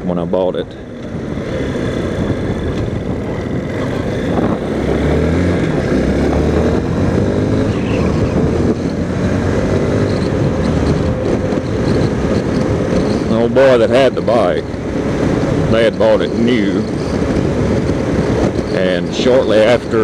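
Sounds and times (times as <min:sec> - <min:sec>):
motorcycle engine accelerating: 0:00.7 - 0:20.0.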